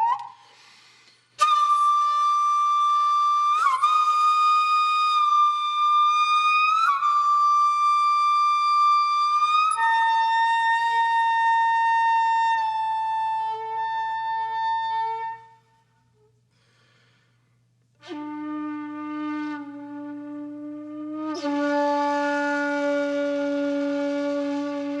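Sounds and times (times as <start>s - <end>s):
flute-like wind instrument: 0.0s - 0.6s, 1.4s - 16.3s, 18.0s - 25.0s.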